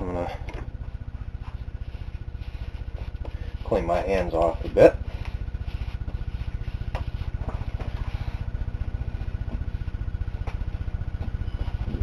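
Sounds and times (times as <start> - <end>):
pulsing machine hum: 0.0 - 12.0.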